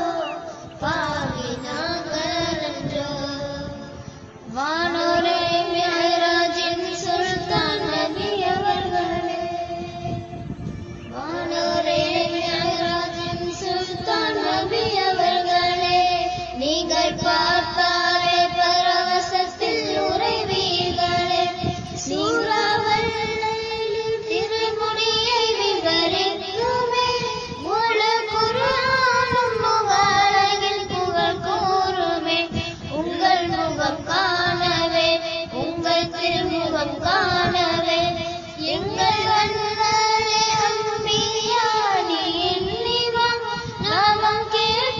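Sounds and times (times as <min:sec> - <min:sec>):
girl singing: 0:00.0 - 0:10.5, 0:11.1 - 0:44.9
instrumental accompaniment: 0:00.0 - 0:44.6.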